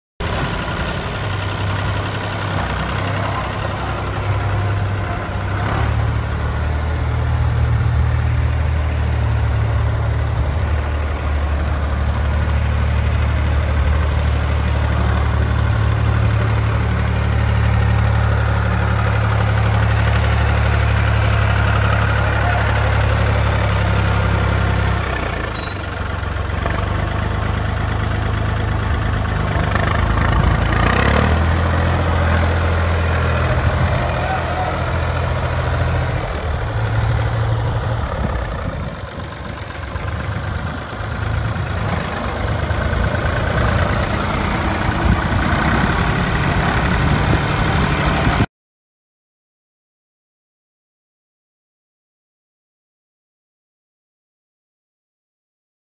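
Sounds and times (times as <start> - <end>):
tractor diesel engine running: 0.2 - 48.5.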